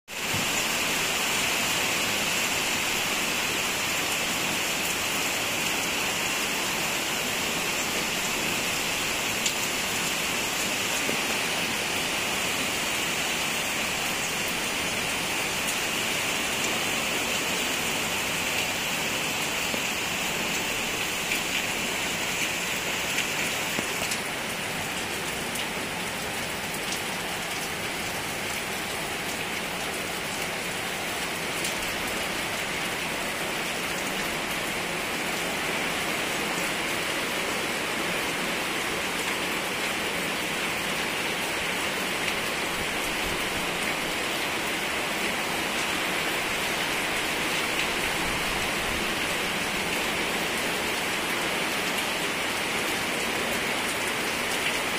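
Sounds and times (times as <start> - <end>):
steady rain falling: 0.1 - 54.9.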